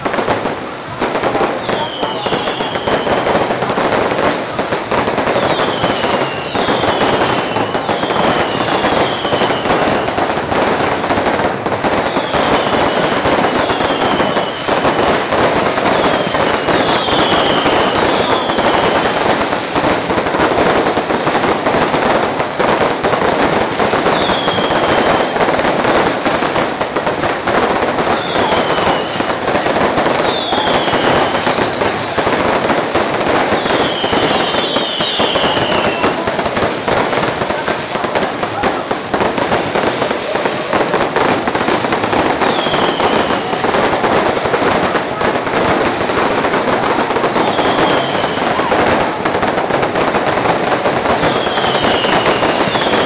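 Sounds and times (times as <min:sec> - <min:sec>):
falling firework whistles: 0:00.0 - 0:11.1, 0:11.8 - 0:45.0, 0:45.7 - 0:53.0
firecrackers crackling and popping: 0:00.0 - 0:53.0.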